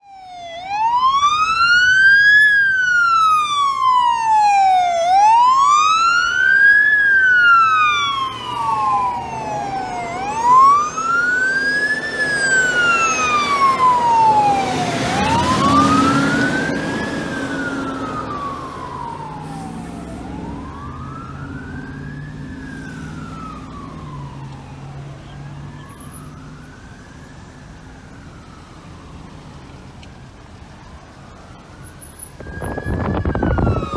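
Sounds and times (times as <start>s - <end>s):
engine and road noise passing: 0.0s - 33.9s
fire engine siren wailing: 0.0s - 33.9s.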